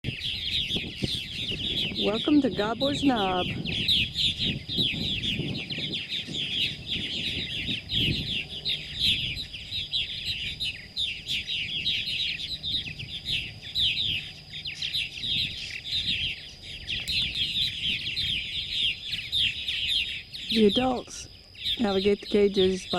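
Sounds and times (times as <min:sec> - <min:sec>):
birds chattering: 0:00.0 - 0:22.9.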